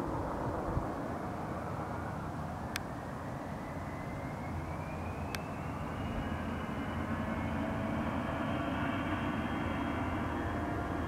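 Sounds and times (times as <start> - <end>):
jet engine whine: 0.0 - 11.0
low engine rumble: 0.0 - 11.0.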